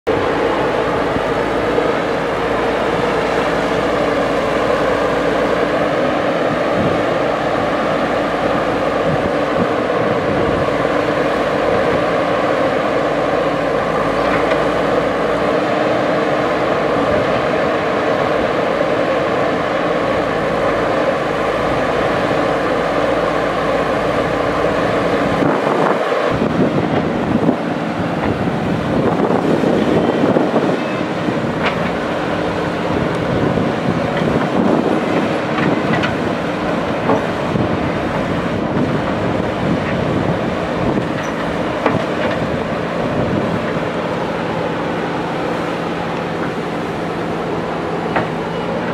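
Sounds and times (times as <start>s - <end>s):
diesel engine running: 0.1s - 48.9s.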